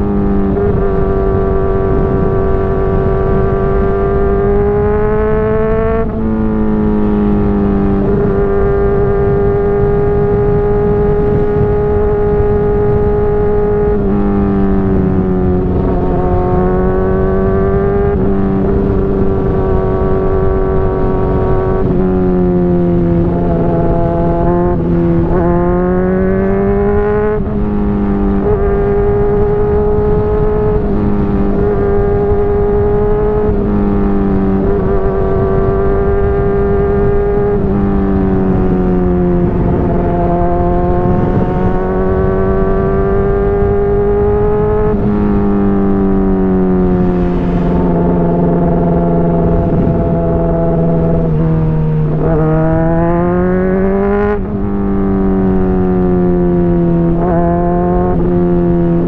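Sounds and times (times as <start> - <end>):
motorcycle engine revving: 0.0 - 59.0
wind rushing: 0.5 - 55.7.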